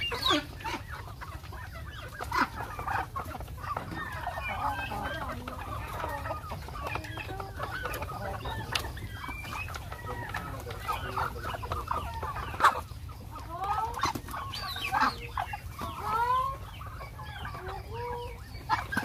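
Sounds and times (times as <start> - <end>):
chickens and turkeys clucking: 0.0 - 19.0.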